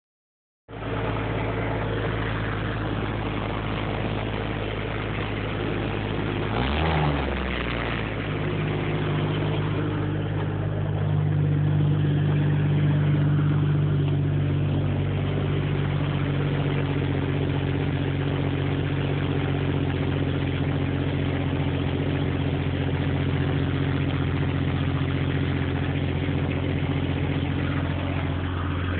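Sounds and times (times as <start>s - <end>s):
engine idling with exhaust leak: 0.7s - 28.9s.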